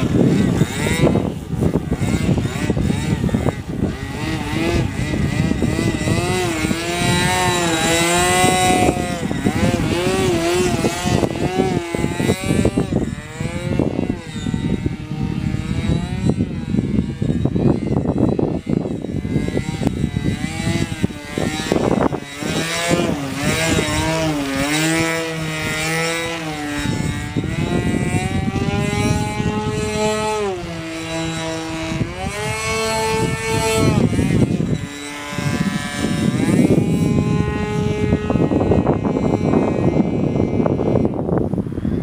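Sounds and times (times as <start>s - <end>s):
model airplane engine: 0.0s - 42.0s
wind rumbling on microphone: 0.0s - 42.0s.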